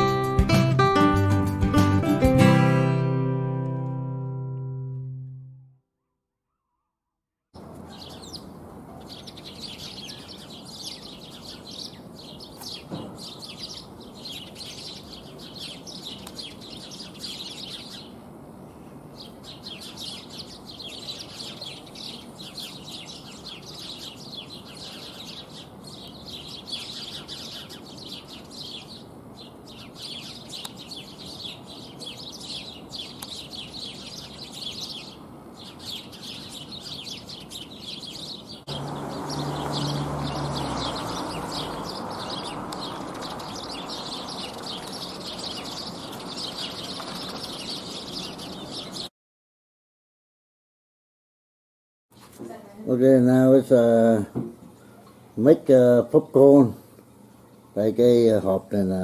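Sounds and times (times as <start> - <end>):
sparrows chirping: 4.4 - 7.0, 7.6 - 49.1, 52.5 - 59.0.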